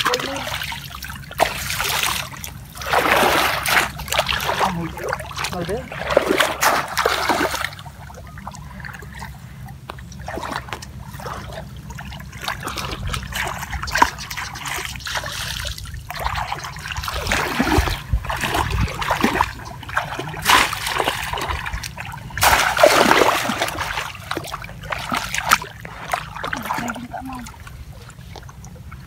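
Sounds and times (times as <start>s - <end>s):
muddy water splashing: 0.0s - 29.0s.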